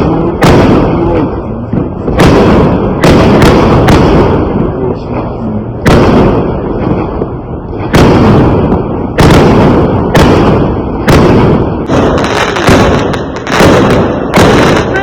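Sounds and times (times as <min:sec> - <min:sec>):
constant low rumble: 0:00.0 - 0:15.0
fireworks exploding: 0:00.0 - 0:15.0.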